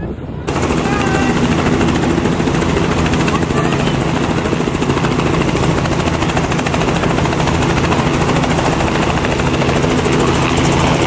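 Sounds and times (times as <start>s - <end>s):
helicopter engine drone: 0.0s - 11.0s
helicopter blade chop: 0.5s - 11.0s.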